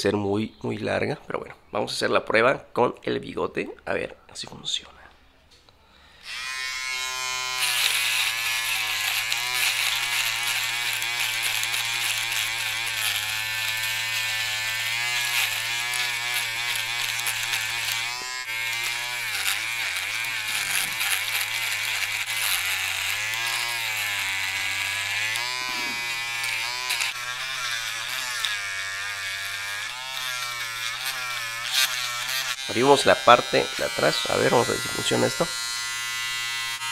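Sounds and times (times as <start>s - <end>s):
electric shaver buzzing: 6.2s - 36.9s.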